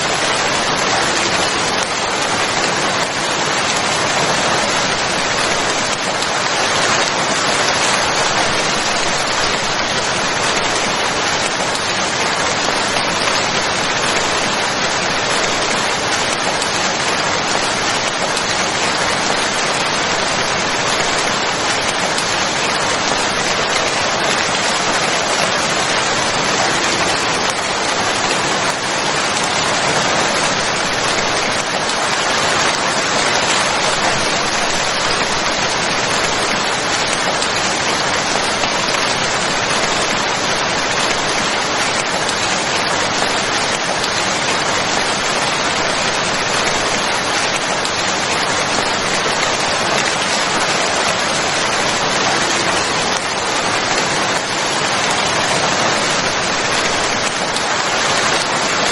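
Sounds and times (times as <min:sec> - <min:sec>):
rain falling on surfaces: 0:00.0 - 0:58.9.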